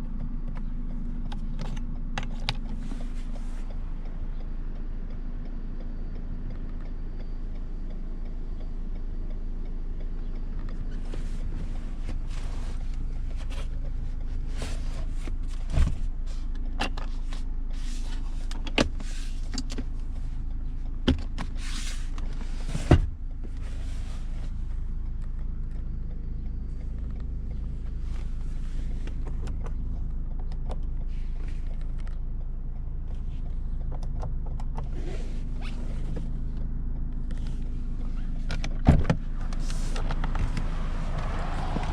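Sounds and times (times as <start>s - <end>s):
car engine and road drone: 0.0s - 41.9s.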